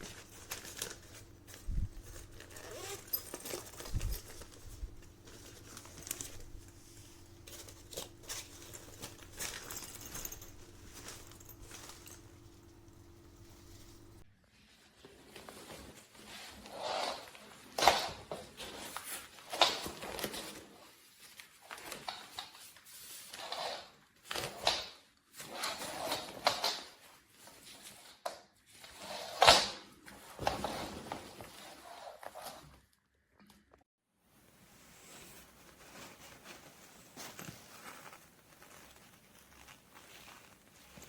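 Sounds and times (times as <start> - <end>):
rustling handling noises: 0.0 - 29.1, 34.3 - 41.0.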